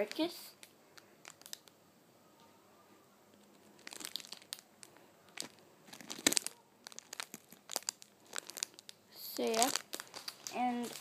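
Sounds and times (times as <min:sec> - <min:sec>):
plastic wrapping crinkling: 0:00.0 - 0:01.8, 0:03.3 - 0:11.0.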